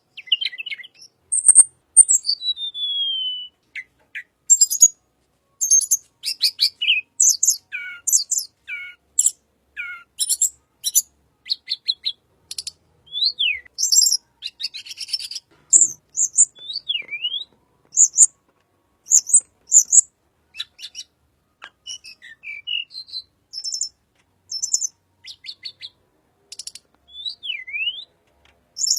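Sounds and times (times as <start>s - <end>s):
bird singing chirps and trills: 0.0s - 5.0s, 5.6s - 18.4s, 19.0s - 28.2s.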